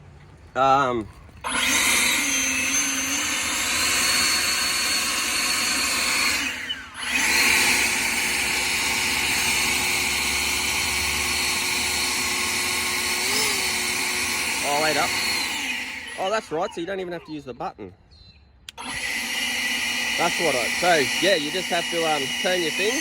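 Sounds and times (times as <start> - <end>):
leaf blower whining: 1.4 - 17.4, 18.7 - 23.0.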